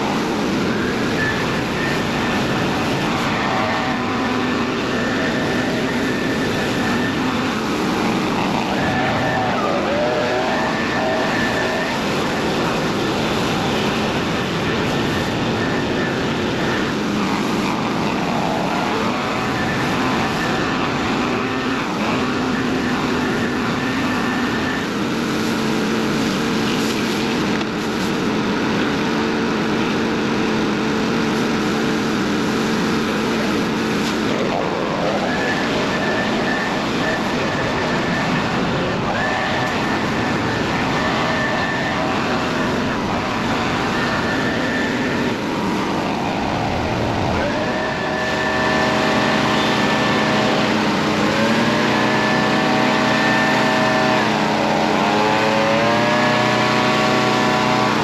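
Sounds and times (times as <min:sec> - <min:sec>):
pressure washer engine running: 0:00.0 - 0:58.0.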